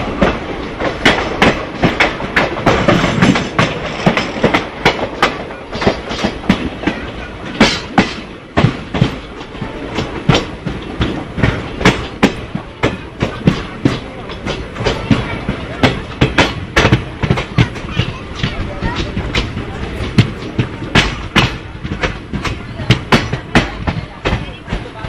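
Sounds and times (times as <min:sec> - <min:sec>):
train rumble: 0:00.0 - 0:25.0
train wheels clacking over rail joints: 0:00.0 - 0:25.0.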